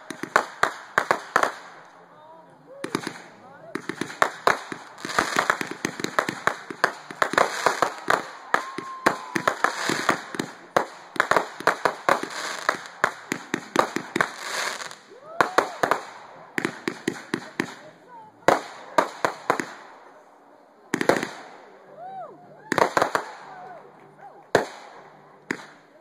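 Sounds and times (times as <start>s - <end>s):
fireworks bangs and crackles: 0.0s - 2.0s, 2.7s - 21.8s, 22.6s - 26.0s.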